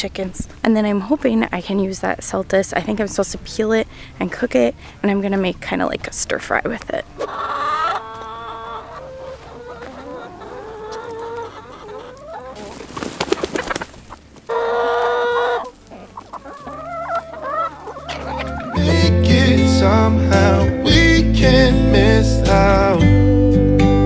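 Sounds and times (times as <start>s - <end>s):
chickens clucking and calling: 1.8s - 23.0s.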